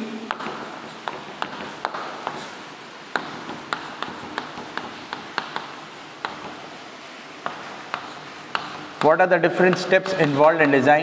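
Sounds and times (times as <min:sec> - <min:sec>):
chalk tapping on chalkboard: 0:00.2 - 0:11.0.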